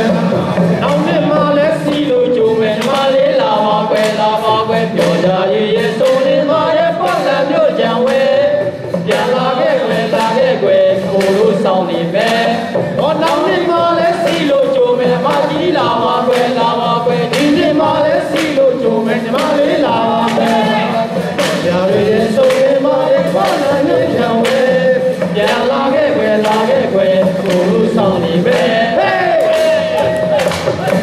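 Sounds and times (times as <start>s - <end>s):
group singing in chorus: 0.0s - 31.0s
music with a regular beat: 0.0s - 31.0s.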